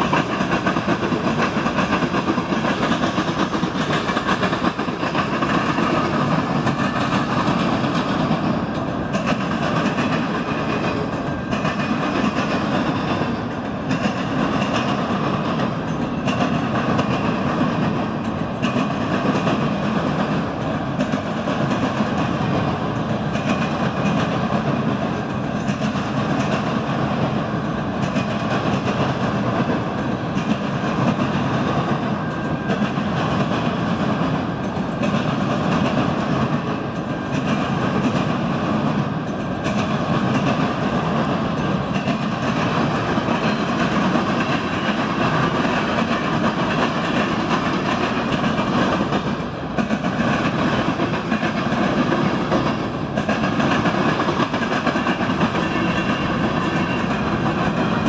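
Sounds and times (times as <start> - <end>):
freight train rumbling past: 0.0 - 58.0
train wheel clicks: 0.0 - 58.0.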